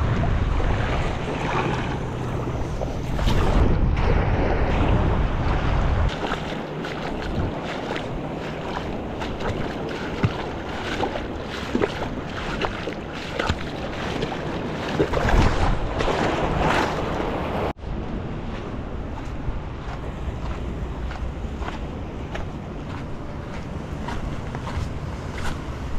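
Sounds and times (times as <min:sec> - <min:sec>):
sea waves splashing: 0:00.0 - 0:25.9
wind buffeting microphone: 0:00.0 - 0:25.9.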